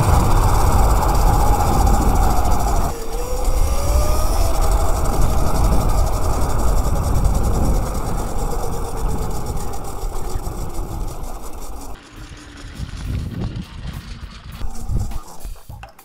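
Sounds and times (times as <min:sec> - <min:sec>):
electric motor whine: 0:00.0 - 0:15.4
wind buffeting microphone: 0:00.0 - 0:15.5.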